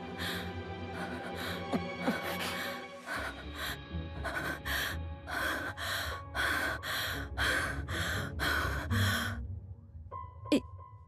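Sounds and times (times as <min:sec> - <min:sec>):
low background music: 0:00.0 - 0:11.0.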